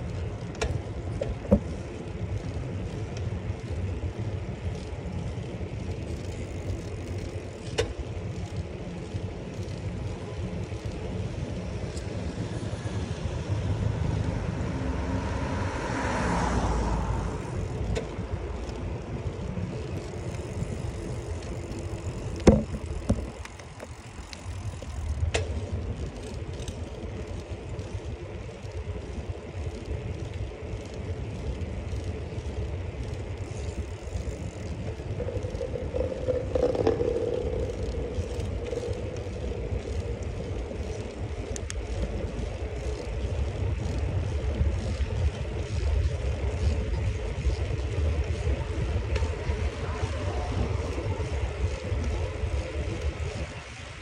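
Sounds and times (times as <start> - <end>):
bicycle tyre noise: 0.0 - 54.0
wind rumble on microphone: 0.0 - 54.0.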